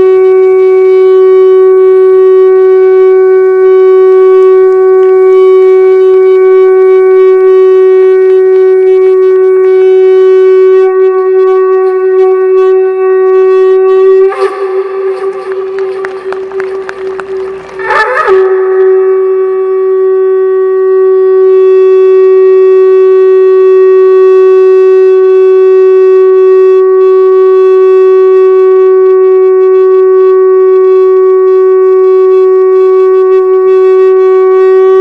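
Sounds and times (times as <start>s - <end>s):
conch shell blown: 0.0s - 35.0s.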